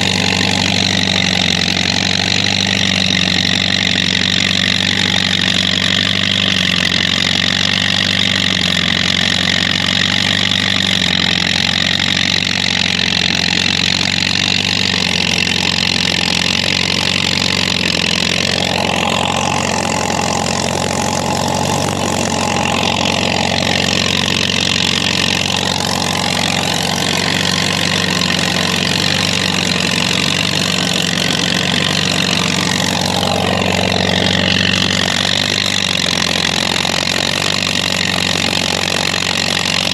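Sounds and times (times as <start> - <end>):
high gliding whine: 0.0 - 7.5, 10.9 - 39.9
engine running with low hum: 0.0 - 39.9.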